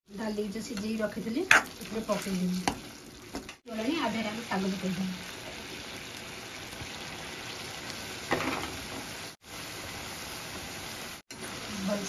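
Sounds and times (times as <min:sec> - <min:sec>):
food sizzling in a wok: 0:00.1 - 0:12.0.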